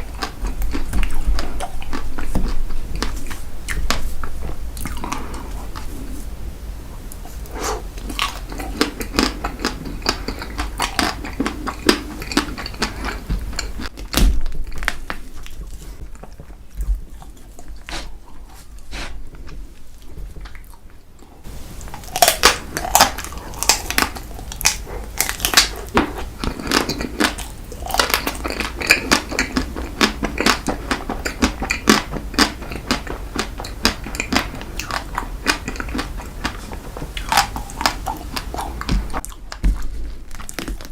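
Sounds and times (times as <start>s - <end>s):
crunchy eating and chewing: 0.0s - 40.9s.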